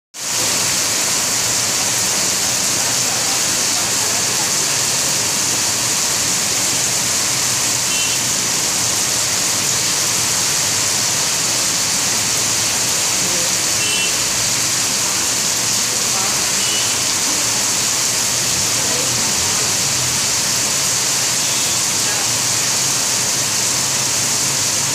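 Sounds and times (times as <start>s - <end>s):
heavy rain downpour: 0.1s - 24.9s
water streaming off roof: 0.2s - 24.9s.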